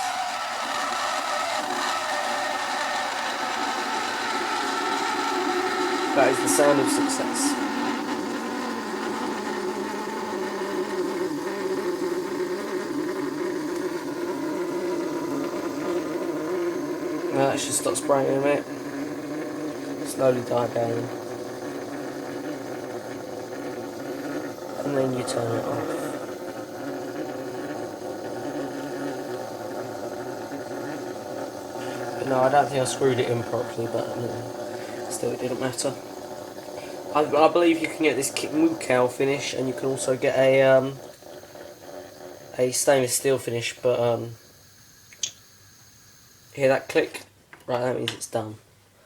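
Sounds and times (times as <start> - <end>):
stovetop coffee maker spraying: 0.0 - 48.5.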